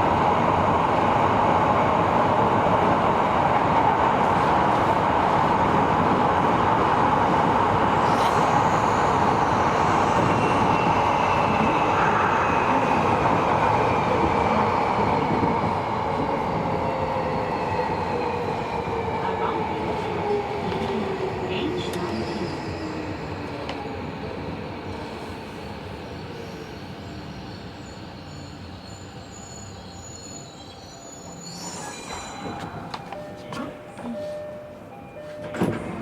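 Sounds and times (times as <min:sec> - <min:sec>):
train wheel and rail noise: 0:00.0 - 0:36.0.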